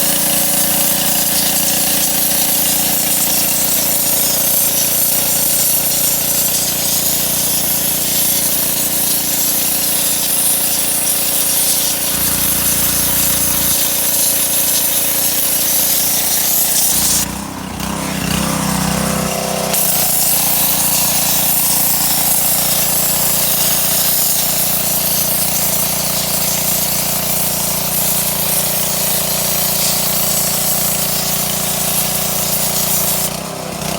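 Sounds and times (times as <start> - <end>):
water jet hissing: 0.0 - 18.3, 18.9 - 33.9
pressure washer motor hum: 0.0 - 33.9.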